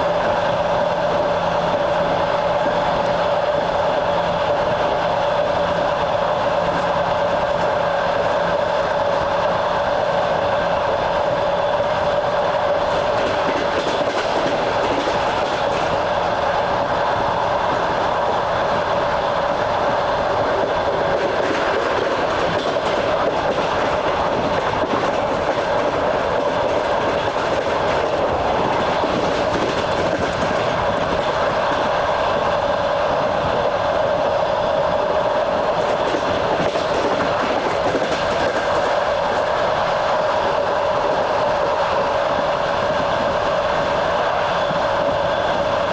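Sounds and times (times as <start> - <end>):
train running rumble: 0.0 - 45.9
train wheels clattering over rail joints: 4.4 - 43.9.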